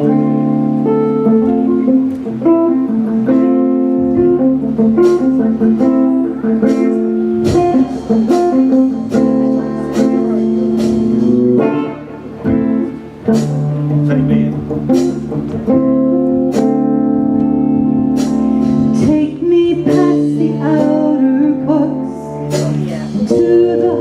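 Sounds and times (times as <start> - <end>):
guitar strumming chords: 0.0 - 24.0.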